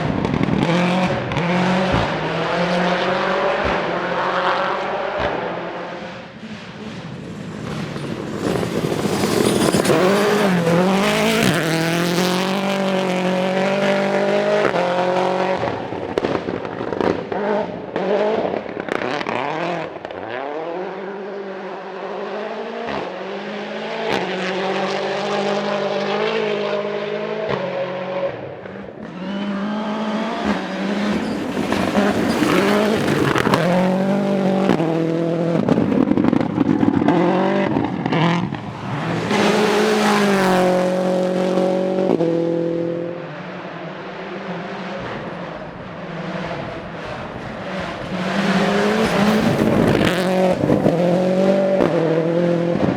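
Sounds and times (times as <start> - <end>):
rally car engine at full throttle: 0.0 - 52.9.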